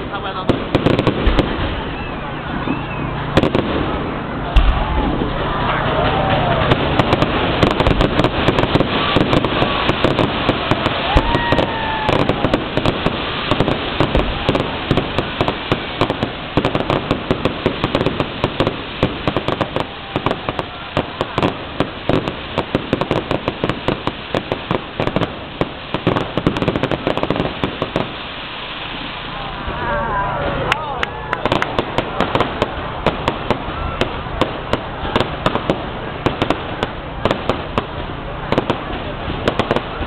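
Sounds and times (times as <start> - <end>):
fireworks crackling and banging: 0.0 - 40.0
whistling fireworks: 0.0 - 40.0.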